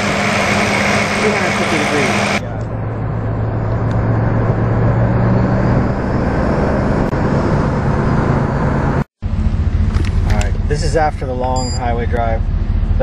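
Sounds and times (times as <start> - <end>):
car engine drone: 0.0 - 13.0
road and wind noise: 0.0 - 13.0.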